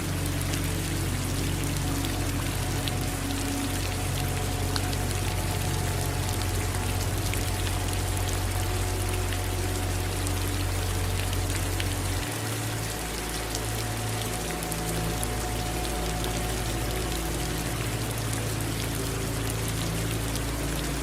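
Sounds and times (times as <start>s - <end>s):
low steady hum: 0.0s - 21.0s
rain pattering: 0.0s - 21.0s
running water: 0.0s - 21.0s.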